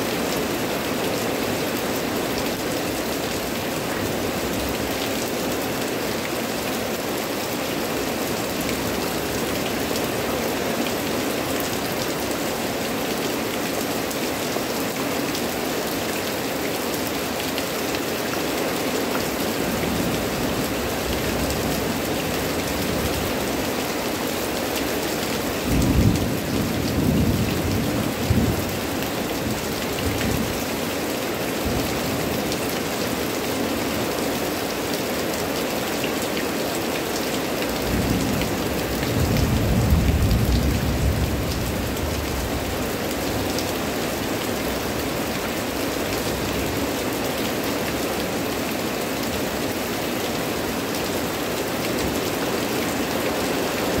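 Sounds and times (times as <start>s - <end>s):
heavy rain on leafy plants: 0.0s - 54.0s.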